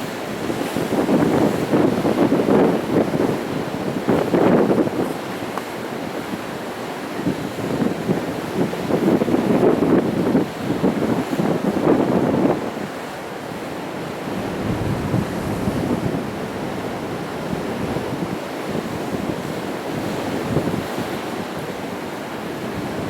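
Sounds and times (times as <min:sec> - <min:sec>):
wind buffeting microphone: 0:00.0 - 0:13.0, 0:13.9 - 0:23.0
sea waves breaking on rocks: 0:00.0 - 0:23.0.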